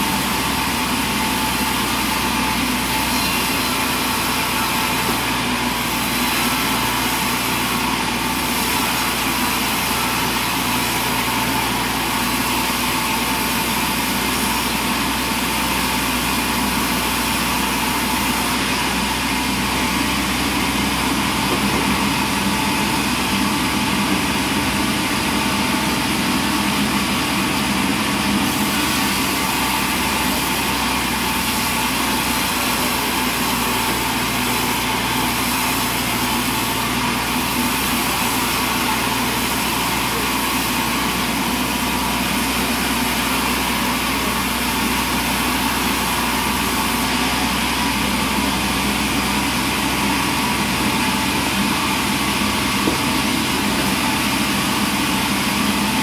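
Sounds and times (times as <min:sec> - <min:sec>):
sawmill motor and saw noise: 0:00.0 - 0:56.0.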